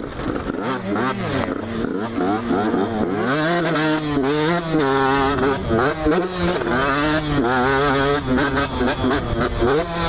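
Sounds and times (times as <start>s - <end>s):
two-stroke motorbike engine revving: 0.0s - 10.0s.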